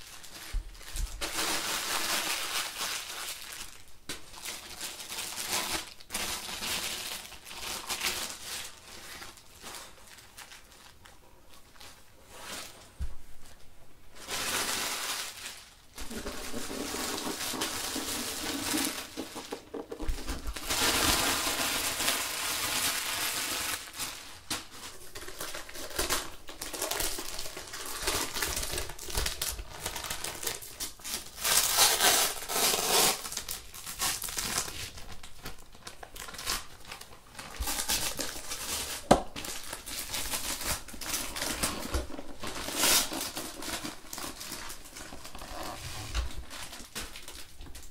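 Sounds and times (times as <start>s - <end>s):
plastic wrapping crinkling: 0.0s - 47.9s.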